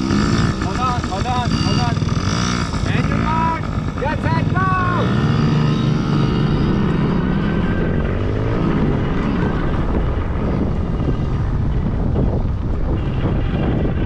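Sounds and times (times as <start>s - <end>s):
dirt bikes revving: 0.0s - 14.0s.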